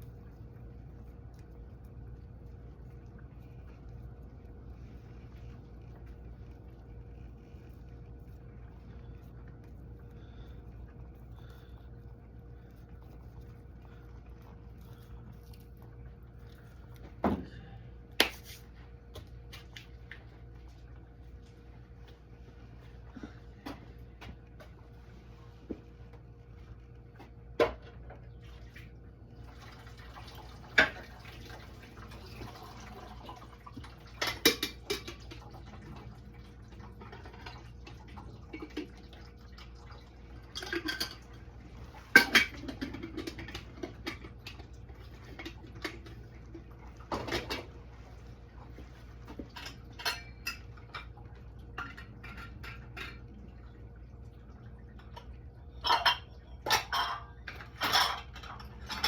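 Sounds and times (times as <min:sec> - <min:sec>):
faint low hum: 0:00.0 - 0:59.0.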